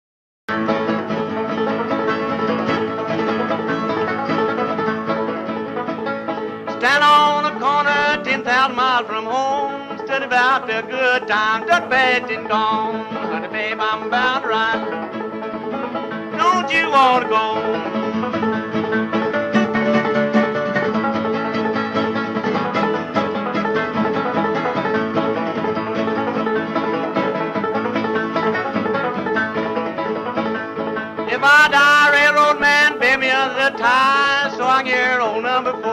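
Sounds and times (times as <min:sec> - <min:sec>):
bluegrass music with picked banjo: 0:00.5 - 0:35.9.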